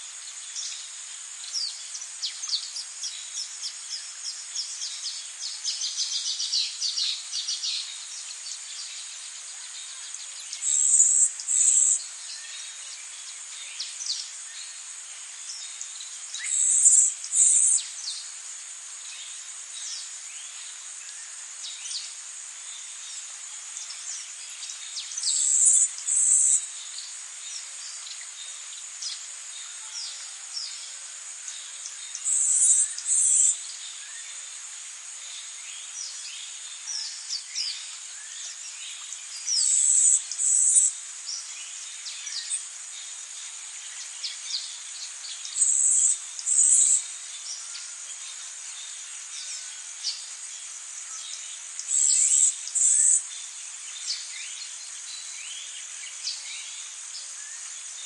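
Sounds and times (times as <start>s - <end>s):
high-pitched insect hum: 0.0s - 58.0s.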